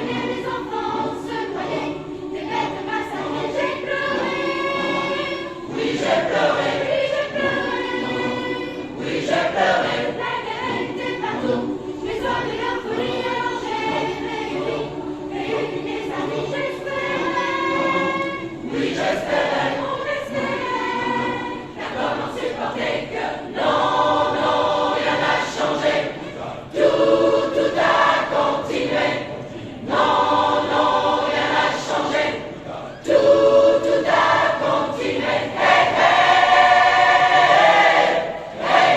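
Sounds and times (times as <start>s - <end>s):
choir singing: 0.0s - 38.9s.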